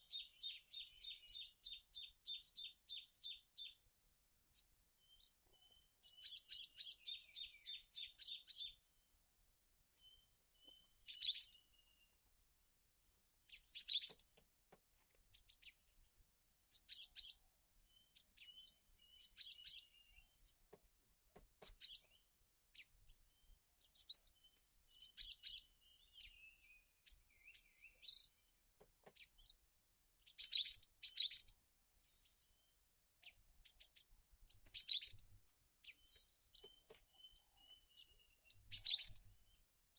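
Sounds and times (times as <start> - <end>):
birds chirping: 0.0 - 3.9, 4.5 - 9.2, 9.9 - 14.4, 15.3 - 39.9.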